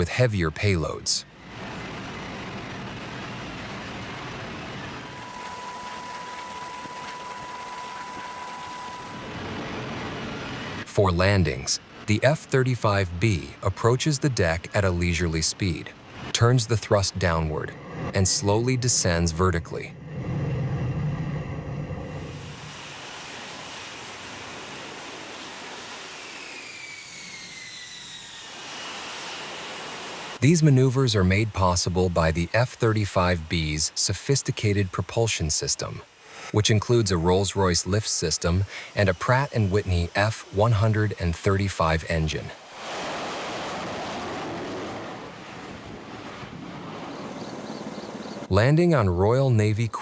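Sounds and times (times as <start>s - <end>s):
jet engine rushing: 0.0s - 48.6s
thin steady whine: 0.0s - 50.0s.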